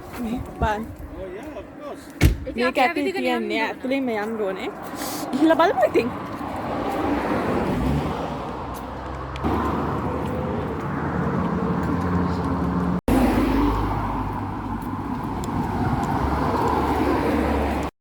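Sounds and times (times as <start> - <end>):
road noise: 0.0 - 17.9.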